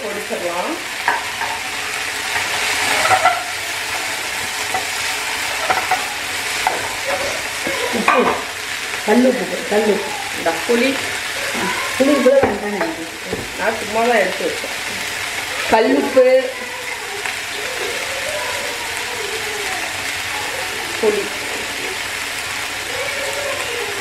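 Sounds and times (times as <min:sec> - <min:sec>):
leaves sizzling in oil: 0:00.0 - 0:24.0.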